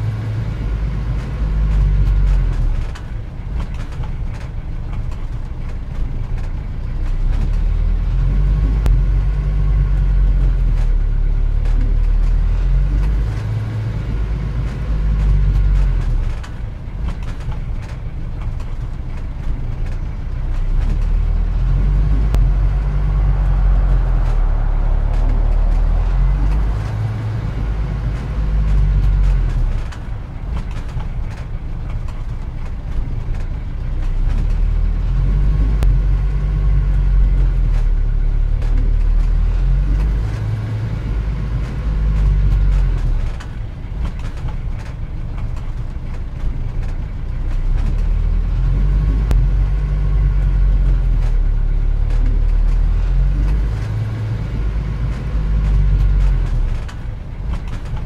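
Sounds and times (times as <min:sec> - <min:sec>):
car engines rumbling: 0:00.0 - 0:58.0.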